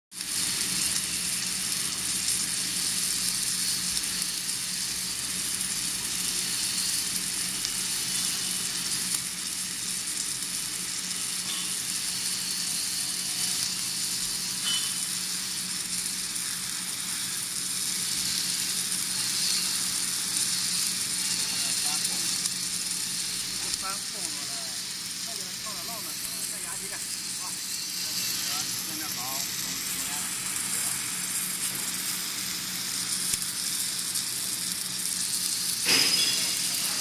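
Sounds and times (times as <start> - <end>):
welding crackling sizzle: 0.1 - 37.0.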